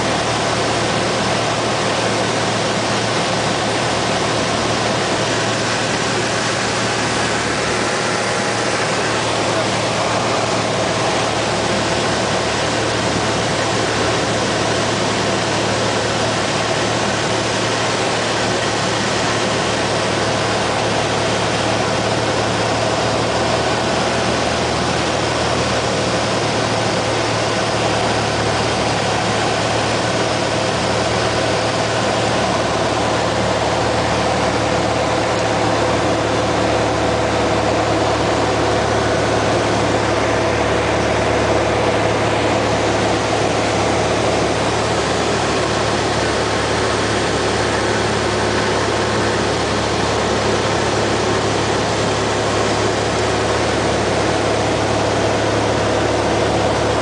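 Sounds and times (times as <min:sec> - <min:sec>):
propeller engine droning: 0:00.0 - 0:57.0.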